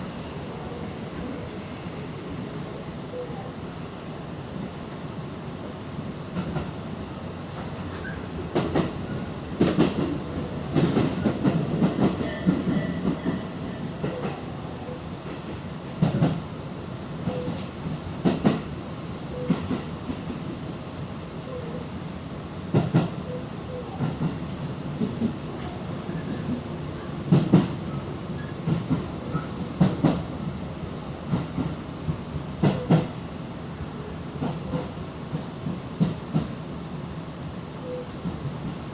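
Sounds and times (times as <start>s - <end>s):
train interior rumble: 0.0s - 38.9s.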